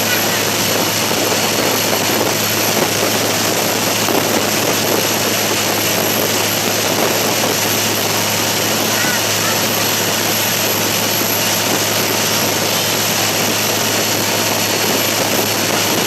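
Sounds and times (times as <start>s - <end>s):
boat engine running: 0.0s - 16.0s
rushing noise: 0.0s - 16.0s.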